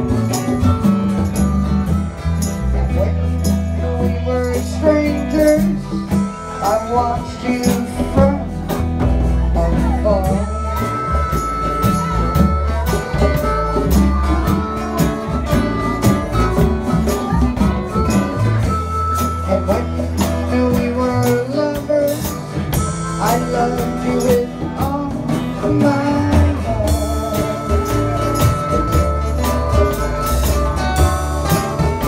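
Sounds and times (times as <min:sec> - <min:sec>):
country music with guitar: 0:00.0 - 0:32.0
wavering lead melody: 0:00.0 - 0:32.0.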